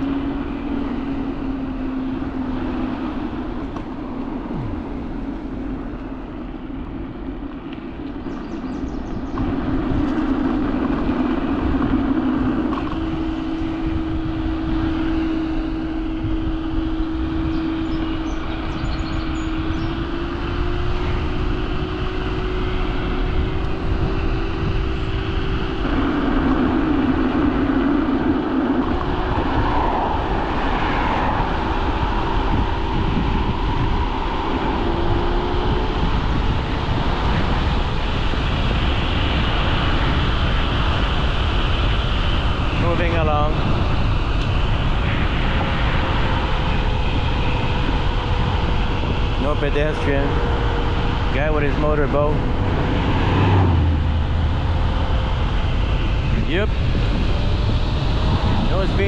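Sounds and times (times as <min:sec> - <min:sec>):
electric scooter motor whine: 0:00.0 - 0:59.0
road noise: 0:00.0 - 0:59.0
rushing wind: 0:00.0 - 0:59.0.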